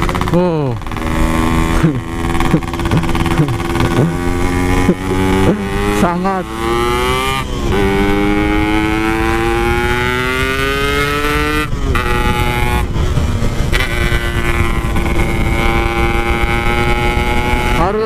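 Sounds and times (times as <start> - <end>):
motorcycle engine accelerating: 0.0 - 18.0
wind on microphone: 0.0 - 18.0.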